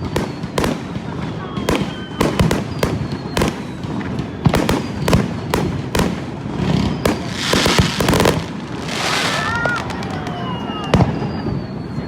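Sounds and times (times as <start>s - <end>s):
fireworks crackling hiss: 0.0s - 11.8s
fireworks bursting with sharp bangs: 0.0s - 12.0s.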